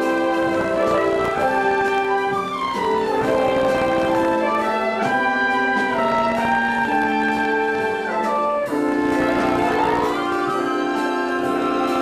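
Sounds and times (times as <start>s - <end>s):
orchestral music: 0.0s - 12.0s.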